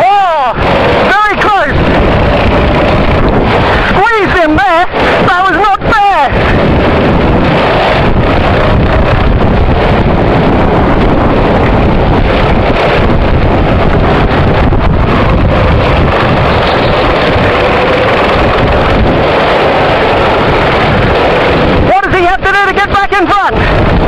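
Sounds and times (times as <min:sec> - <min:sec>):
go-kart engine drone: 0:00.0 - 0:24.0
wind buffeting microphone: 0:00.0 - 0:24.0.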